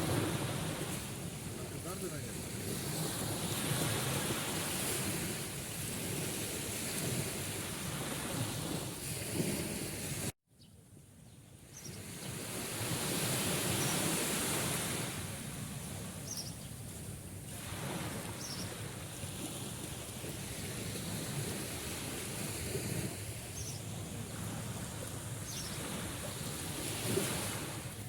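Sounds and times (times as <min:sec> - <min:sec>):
sea waves surging on shore: 0:00.0 - 0:10.4, 0:12.1 - 0:28.0.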